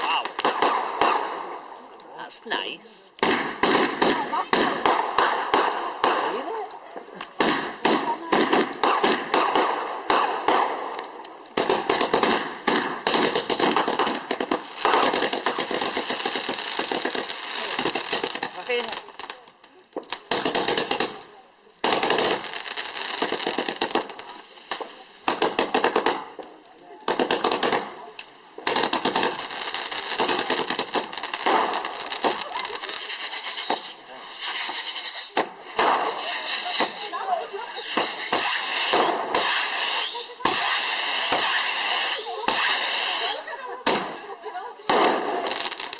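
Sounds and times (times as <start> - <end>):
fireworks bangs and crackle: 0.0 - 45.9.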